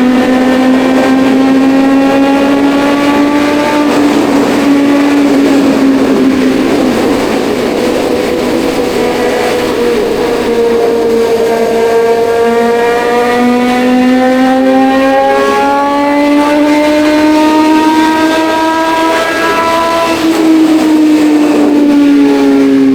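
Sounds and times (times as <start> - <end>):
motorcycle engine accelerating: 0.0 - 22.9.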